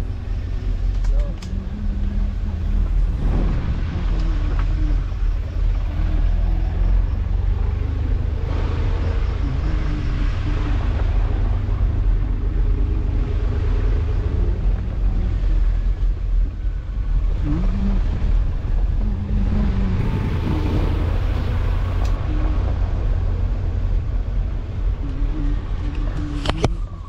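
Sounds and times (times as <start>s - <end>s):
vehicle rumble: 0.0s - 27.0s
wind buffeting microphone: 0.0s - 27.0s.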